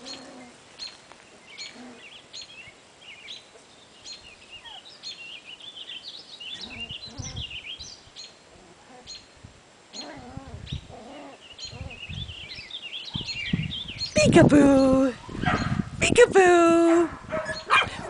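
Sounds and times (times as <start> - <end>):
songbirds chirping and warbling: 0.0 - 18.0.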